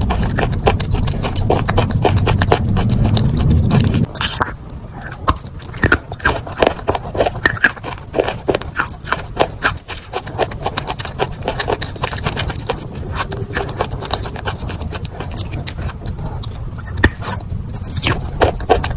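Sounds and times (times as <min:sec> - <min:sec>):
crunching and chewing chalk: 0:00.0 - 0:18.9.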